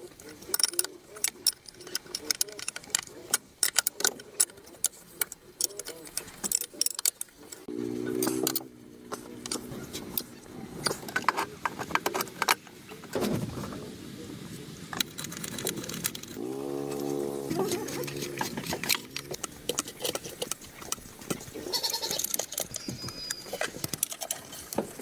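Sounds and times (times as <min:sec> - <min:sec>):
light metallic clinks and rattles: 0:00.0 - 0:12.6, 0:17.5 - 0:25.0.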